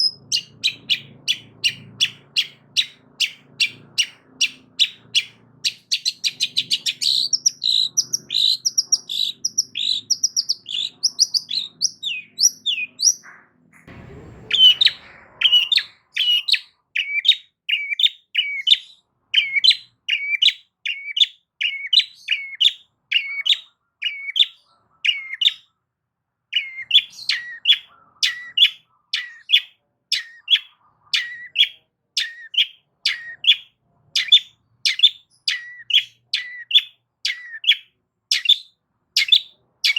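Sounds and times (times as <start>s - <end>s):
shrike singing: 0.0s - 24.5s, 26.5s - 39.9s.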